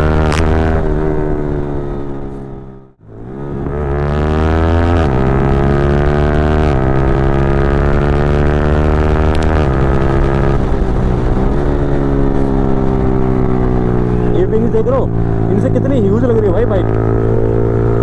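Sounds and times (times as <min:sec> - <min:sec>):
motorcycle engine revving and upshifting: 0:00.0 - 0:18.0.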